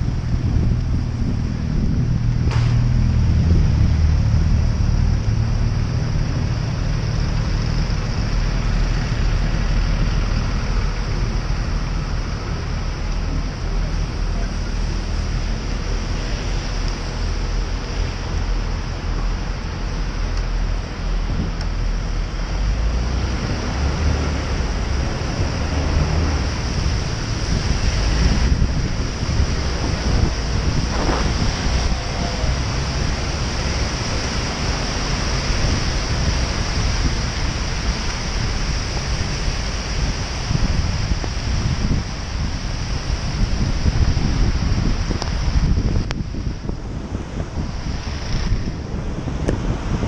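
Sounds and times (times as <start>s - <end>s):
tyres hissing on wet road: 0.0s - 50.0s
wind rushing over microphone: 0.0s - 50.0s.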